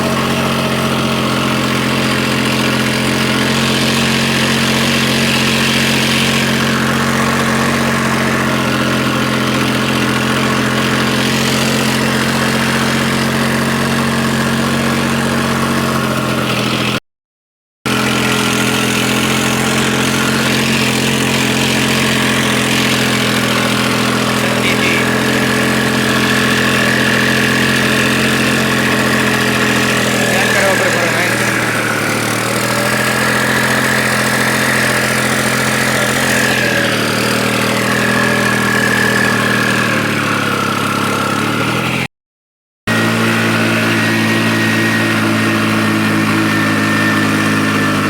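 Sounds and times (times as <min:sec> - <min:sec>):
tractor diesel engine running: 0:00.0 - 0:17.0, 0:17.9 - 0:42.1, 0:42.9 - 0:48.0.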